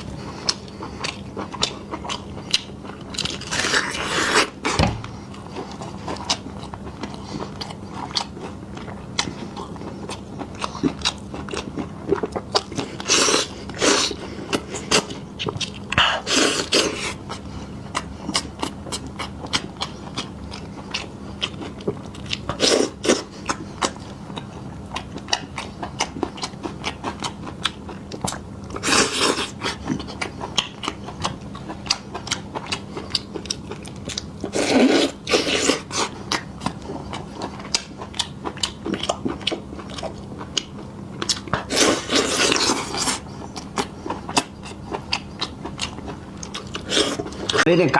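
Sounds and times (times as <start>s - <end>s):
person chewing meat: 0.0s - 47.8s
faint steady hum: 0.0s - 47.9s.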